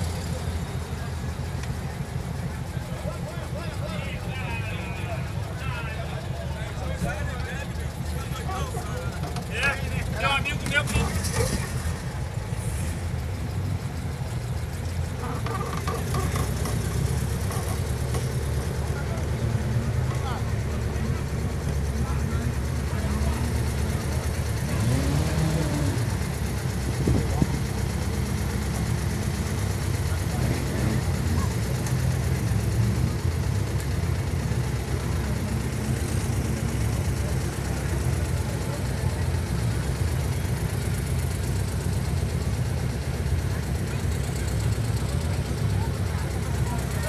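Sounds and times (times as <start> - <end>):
car engine running: 0.0 - 47.0.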